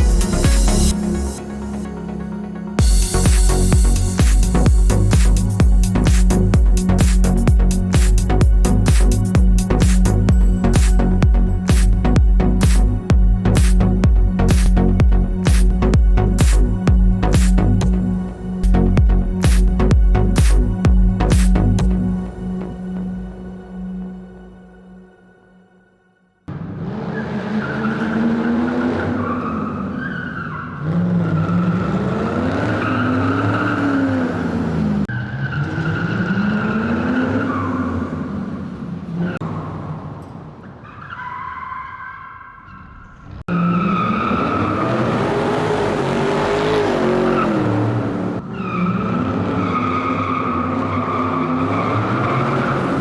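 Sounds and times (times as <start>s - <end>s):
race car engine revving: 2.8s - 22.2s, 26.5s - 40.2s, 43.4s - 53.0s.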